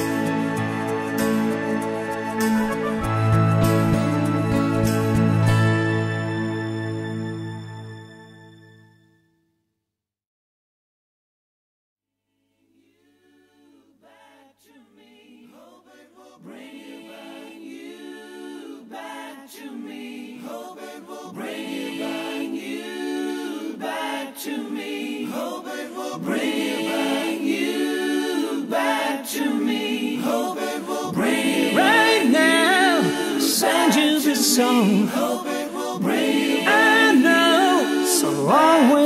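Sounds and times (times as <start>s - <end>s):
choir-like wordless vocal harmonies: 0.0s - 5.6s, 12.8s - 39.0s.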